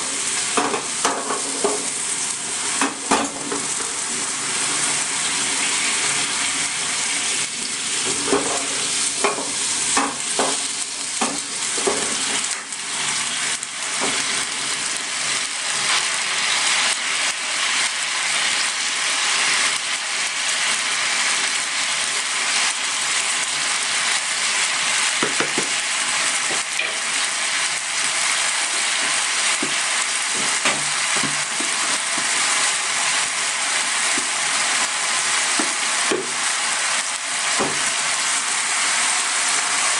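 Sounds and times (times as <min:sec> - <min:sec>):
chicken sizzling in frying pan: 0:00.0 - 0:39.9.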